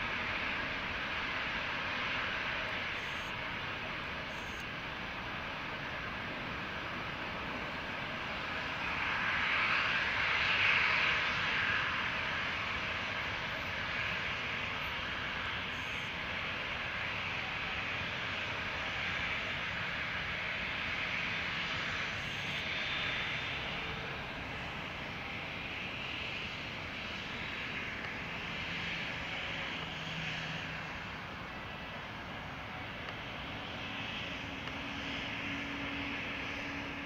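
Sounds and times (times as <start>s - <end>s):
jet engines roaring at takeoff: 0.0s - 37.0s.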